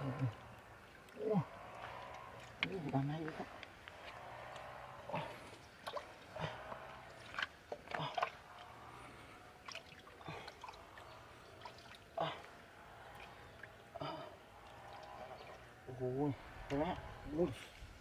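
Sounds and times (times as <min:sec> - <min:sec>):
mud squelching and water splashing: 0:00.0 - 0:18.0.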